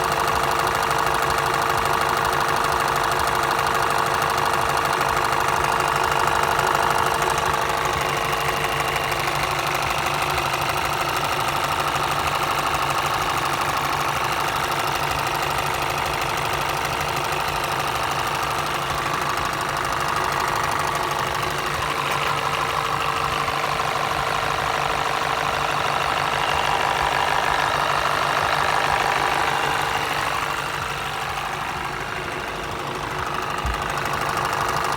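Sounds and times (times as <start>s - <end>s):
car engine idling: 0.0s - 34.9s
fast rhythmic knocking: 0.0s - 34.9s.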